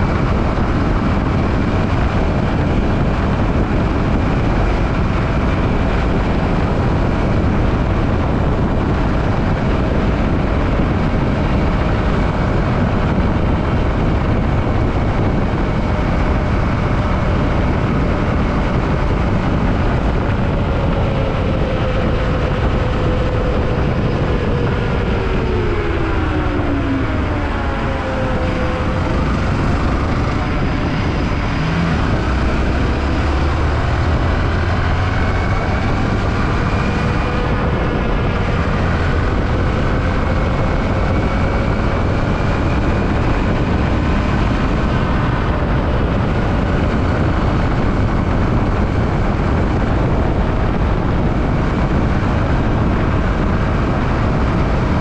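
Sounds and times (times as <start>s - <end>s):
motorcycle engine while riding: 0.0s - 55.0s
wind and road noise: 0.0s - 55.0s.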